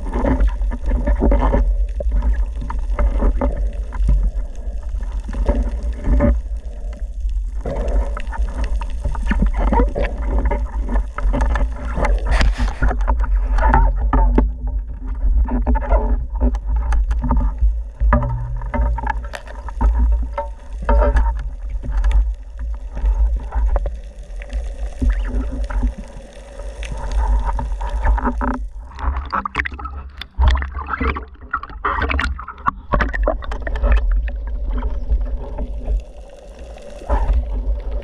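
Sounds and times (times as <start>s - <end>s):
underwater rumble of water: 0.0s - 38.0s.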